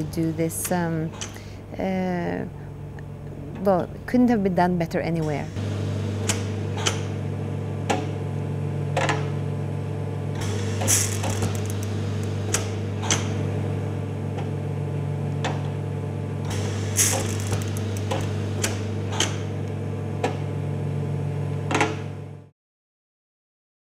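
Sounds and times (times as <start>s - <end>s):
loom humming: 0.0s - 22.5s.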